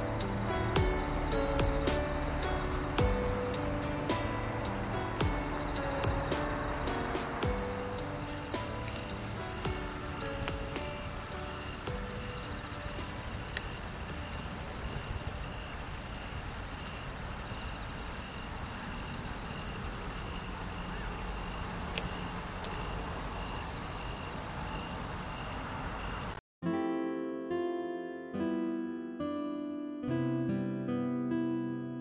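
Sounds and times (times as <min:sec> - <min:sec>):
high-pitched insect trill: 0:00.0 - 0:26.4
lower insect chirp: 0:00.0 - 0:26.4.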